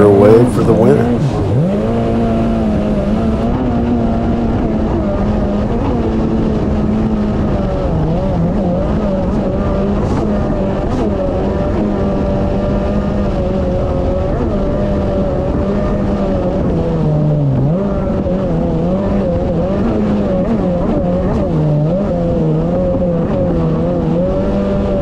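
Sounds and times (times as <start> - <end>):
watercraft engine running: 0.0 - 25.0.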